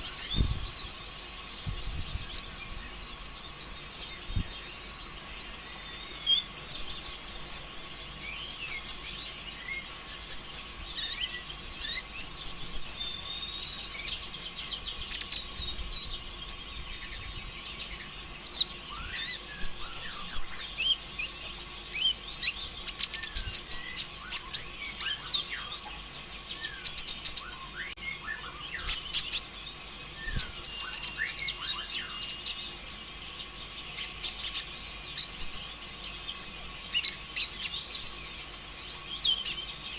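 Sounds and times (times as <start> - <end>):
faint steady hum: 0.0 - 39.9
sunbird singing fast chirps: 0.0 - 39.9.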